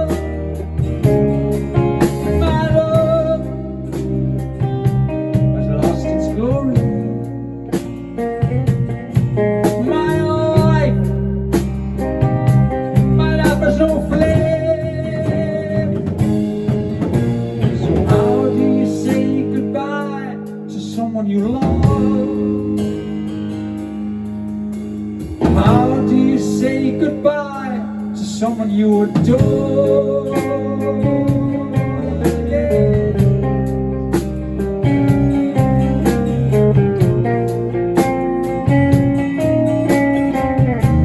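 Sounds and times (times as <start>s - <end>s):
guitar chords: 0.0s - 41.0s
rock band playing live: 0.0s - 41.0s.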